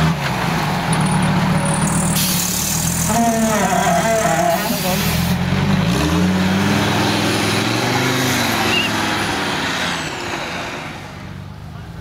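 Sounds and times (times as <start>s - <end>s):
off-road engine revving: 0.0s - 11.2s
tyres churning through mud: 0.0s - 11.2s.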